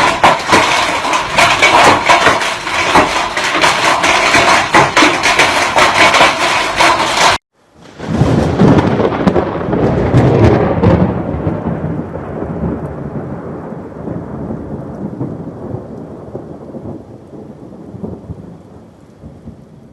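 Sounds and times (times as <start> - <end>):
rain: 0.0 - 19.9
thunder clap and rumble: 0.0 - 19.9.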